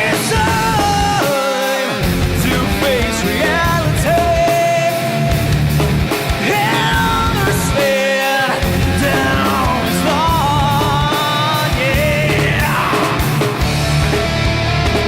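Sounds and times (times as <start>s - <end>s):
rock and roll song: 0.0s - 15.0s.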